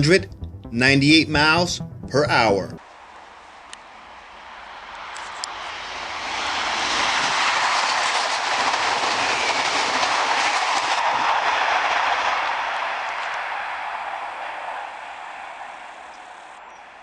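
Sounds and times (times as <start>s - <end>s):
high-speed train passing: 2.8s - 17.0s.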